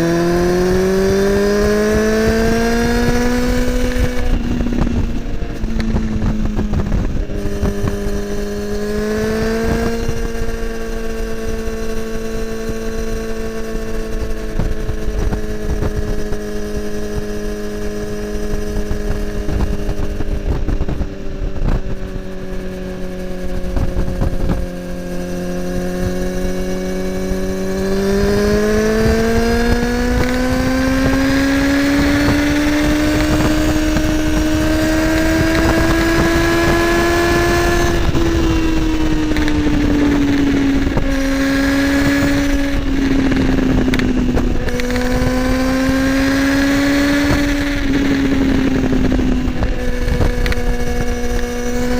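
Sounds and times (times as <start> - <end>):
motorcycle engine cruising: 0.0 - 51.9
wind rumbling on microphone: 0.0 - 51.9.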